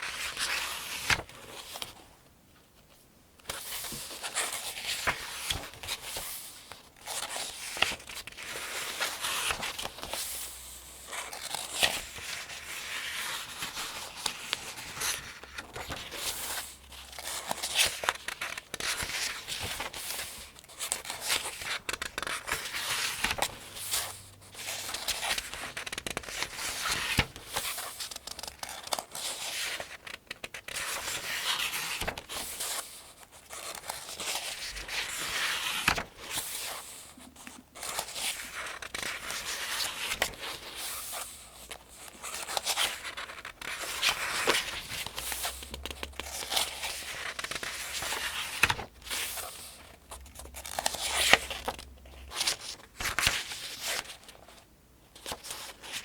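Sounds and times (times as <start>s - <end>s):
paper pages turning: 0.1s - 2.0s, 3.5s - 54.6s, 55.2s - 56.0s.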